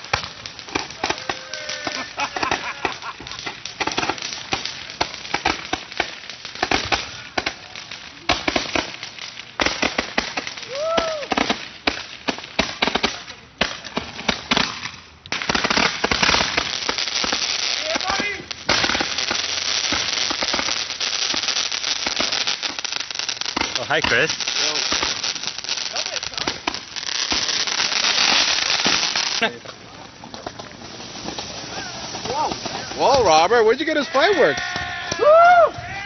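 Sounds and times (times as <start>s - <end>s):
firecrackers popping: 0.0s - 36.0s.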